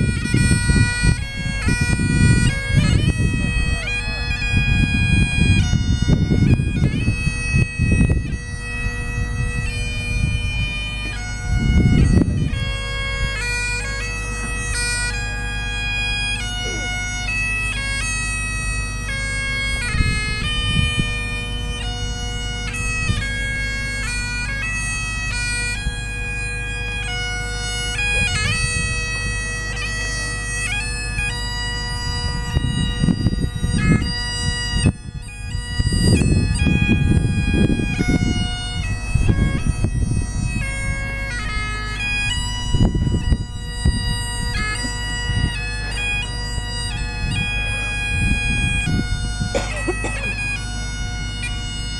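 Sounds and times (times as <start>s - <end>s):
bagpipe playing a tune: 0.0s - 51.9s
low rumbling noise: 0.0s - 51.9s.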